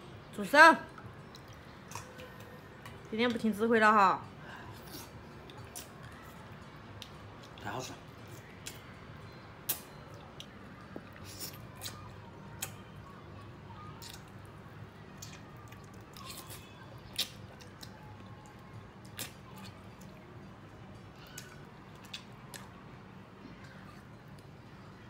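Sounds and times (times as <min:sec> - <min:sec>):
person chewing with wet smacks: 0:00.9 - 0:03.4, 0:04.2 - 0:24.6.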